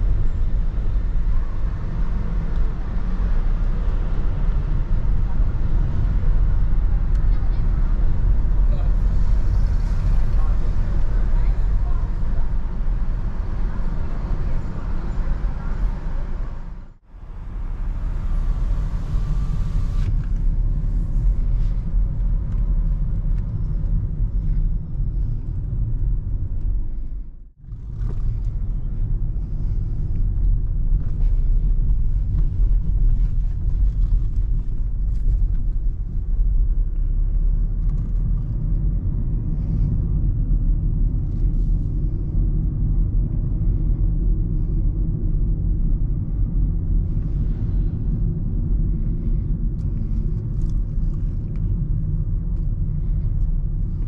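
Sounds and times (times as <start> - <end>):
car cabin engine and road noise: 0.0 - 54.0.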